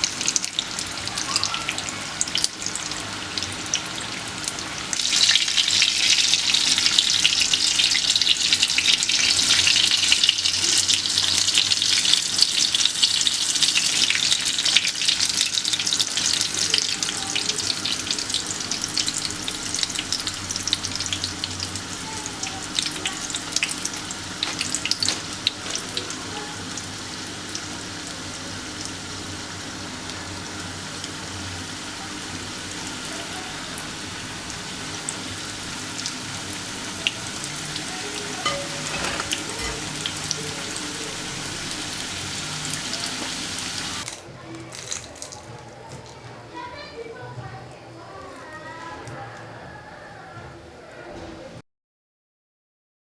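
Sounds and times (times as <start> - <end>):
food sizzling in hot oil: 0.0 - 44.2.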